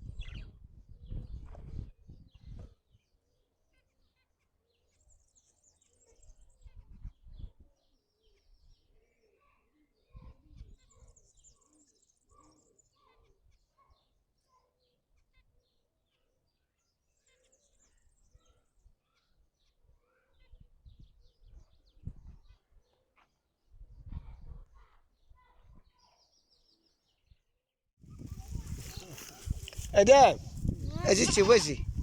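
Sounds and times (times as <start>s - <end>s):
faint bird chirping: 0.0s - 27.4s, 28.0s - 32.0s.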